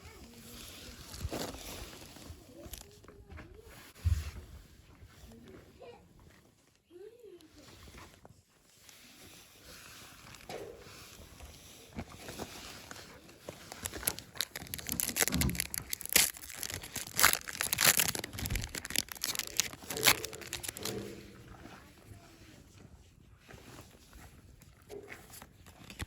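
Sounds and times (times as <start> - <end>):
plastic and foil wrapping crinkling: 0.0 - 4.0, 6.6 - 26.0.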